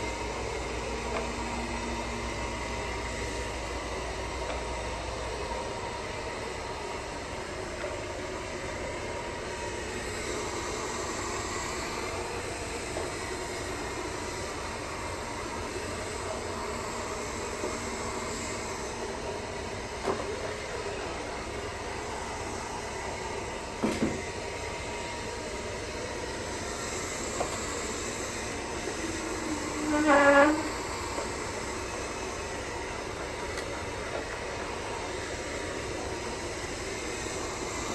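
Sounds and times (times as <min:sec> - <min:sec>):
robot vacuum humming: 0:00.0 - 0:37.9.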